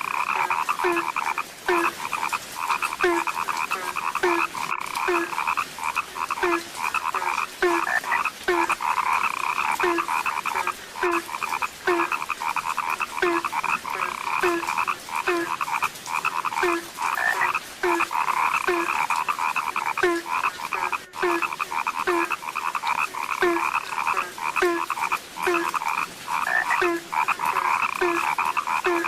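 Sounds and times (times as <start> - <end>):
chorus of frogs calling: 0.0 - 29.0
low frog croak: 0.0 - 29.0.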